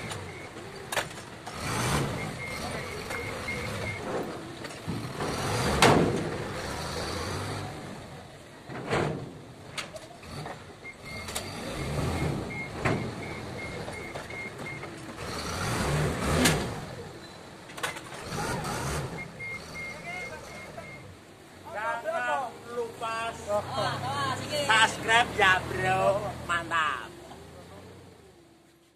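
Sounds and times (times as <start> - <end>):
forklift engine running: 0.0 - 28.7.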